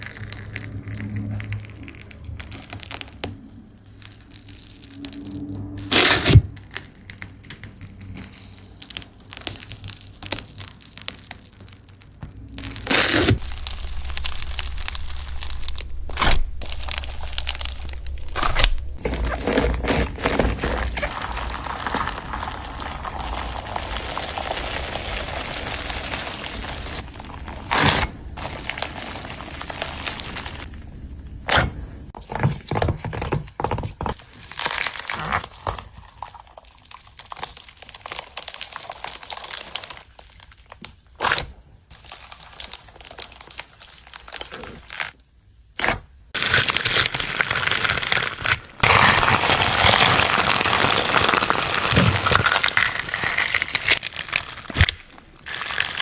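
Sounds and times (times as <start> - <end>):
slime crackling and popping: 0.0 - 31.7, 34.1 - 45.2, 45.8 - 56.0.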